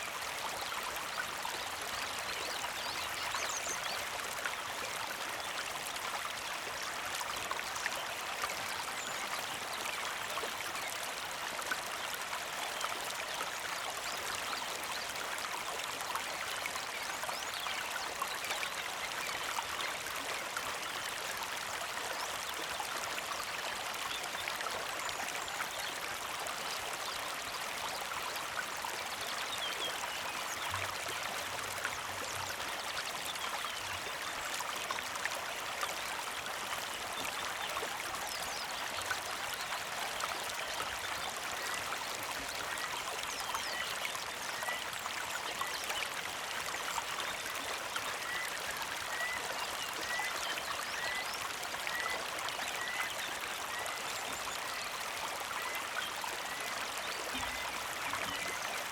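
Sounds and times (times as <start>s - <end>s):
creek babbling over stones: 0.0s - 58.9s.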